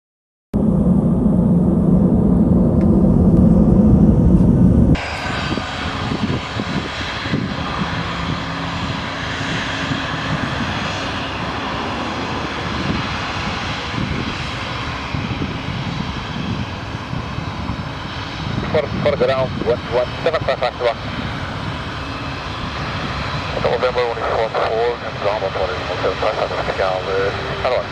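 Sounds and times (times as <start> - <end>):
jet airliner engines roaring: 0.6 - 27.9.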